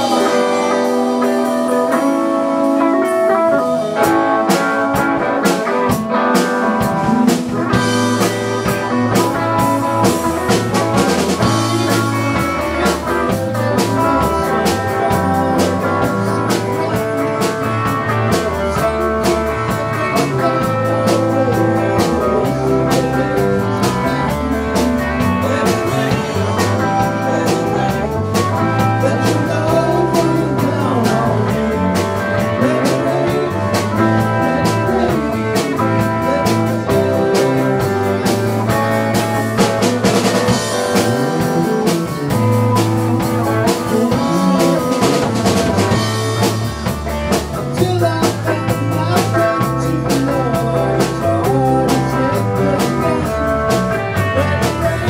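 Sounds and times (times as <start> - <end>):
blues-rock band playing: 0.0 - 55.0
electric guitar: 0.0 - 55.0.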